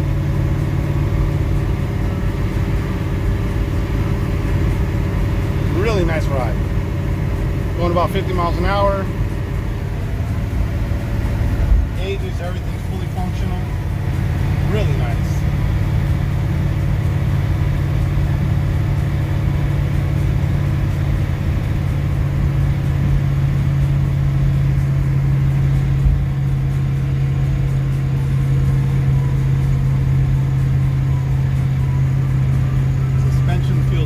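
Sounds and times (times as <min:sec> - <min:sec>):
car engine droning: 0:00.0 - 0:34.0
road noise: 0:00.0 - 0:34.0.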